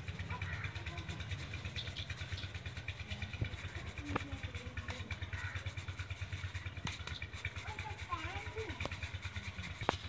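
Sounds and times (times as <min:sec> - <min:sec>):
grain shaken in metal sieve: 0:00.0 - 0:10.0
small engine chugging: 0:00.0 - 0:10.0.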